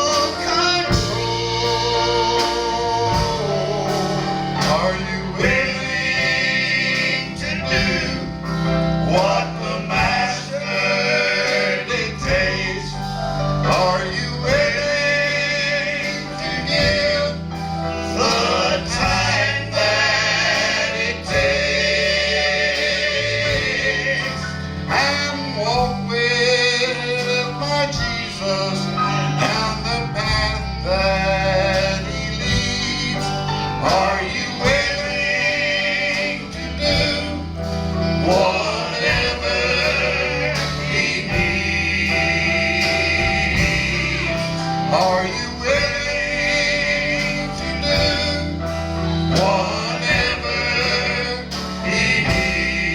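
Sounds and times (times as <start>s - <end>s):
instrumental accompaniment: 0.0s - 52.9s
male quartet singing in harmony: 0.0s - 52.9s.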